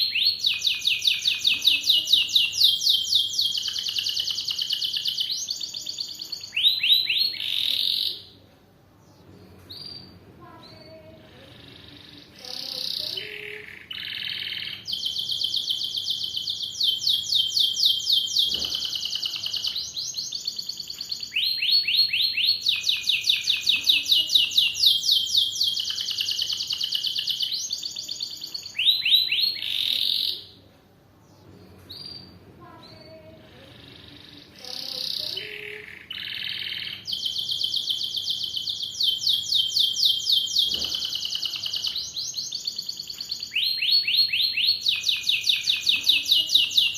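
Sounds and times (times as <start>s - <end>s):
canary singing trills: 0.0s - 8.4s, 9.0s - 30.6s, 31.2s - 46.9s.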